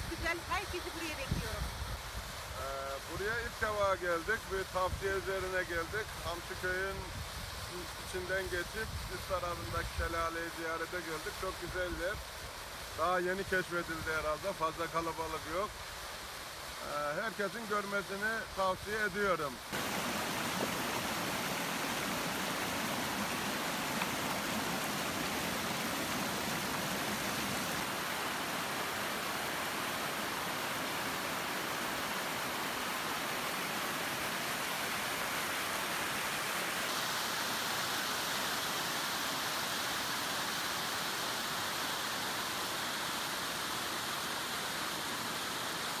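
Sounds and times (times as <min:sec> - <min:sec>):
waterfall rushing over rocks: 0:00.0 - 0:46.0.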